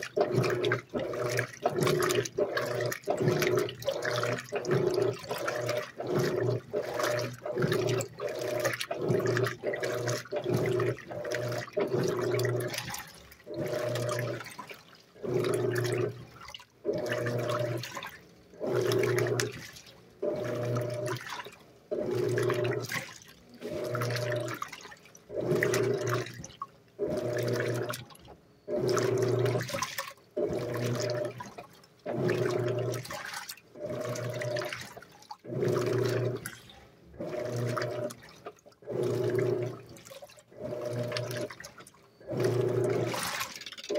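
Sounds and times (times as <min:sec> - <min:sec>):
washing machine agitator humming: 0:00.0 - 0:43.9
water and clothes sloshing: 0:00.0 - 0:43.9.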